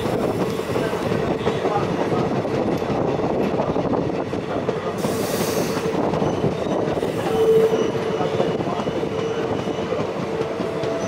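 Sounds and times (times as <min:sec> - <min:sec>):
train wheel and rail rumble: 0:00.0 - 0:11.0.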